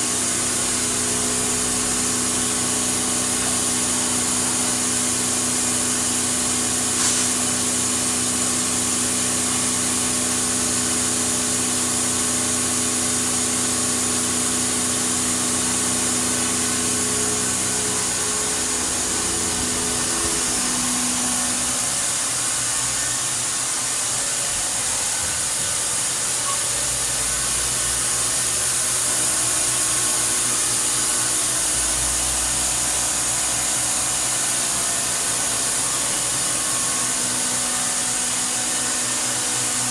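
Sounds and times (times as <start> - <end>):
layered machine hum: 0.0 - 39.9
machining center whirring hiss: 0.0 - 39.9.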